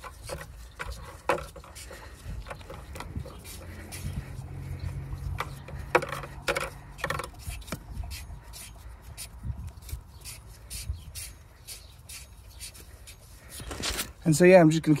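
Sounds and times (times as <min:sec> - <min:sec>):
pulley rubbing squeaks: 0:00.0 - 0:14.2.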